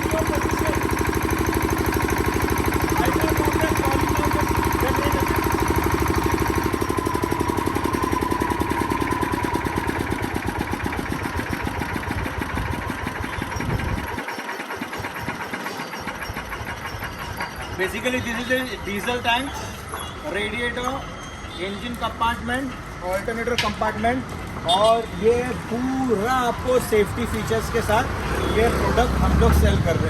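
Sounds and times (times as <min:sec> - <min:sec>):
diesel generator engine running: 0:00.0 - 0:30.0.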